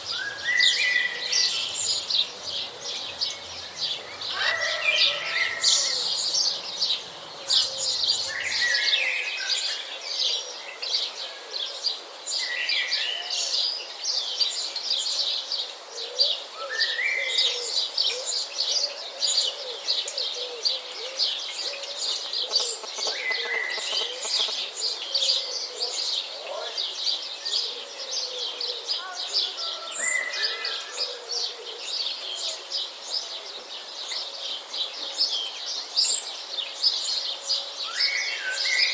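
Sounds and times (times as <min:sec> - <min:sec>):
birds chirping in chorus: 0:00.0 - 0:38.9.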